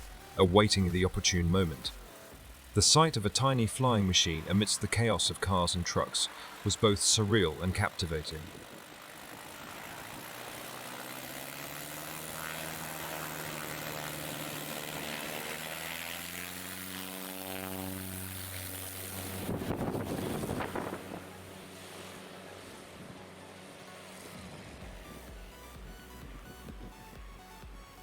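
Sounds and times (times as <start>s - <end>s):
ultralight aircraft engine running: 0.0s - 28.0s.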